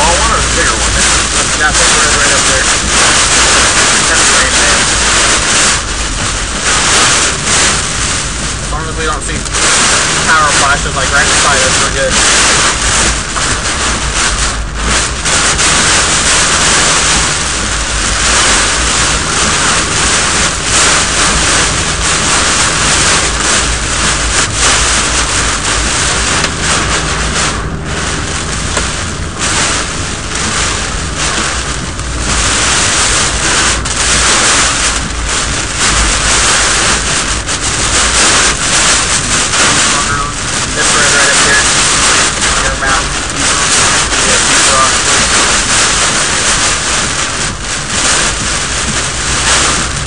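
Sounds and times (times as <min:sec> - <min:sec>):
heavy rain on car: 0:00.0 - 0:50.0
low rumble: 0:00.0 - 0:50.0
strong wind gusts: 0:00.0 - 0:50.0.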